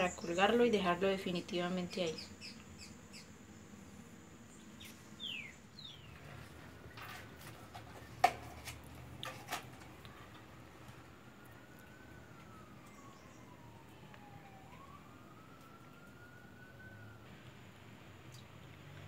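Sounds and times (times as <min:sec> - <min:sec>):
faint siren: 0:00.0 - 0:18.2.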